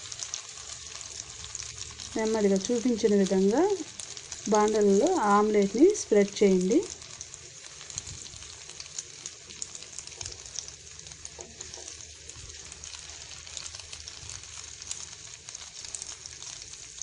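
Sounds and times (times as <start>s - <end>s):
omelette sizzling in hot oil: 0.0s - 17.0s.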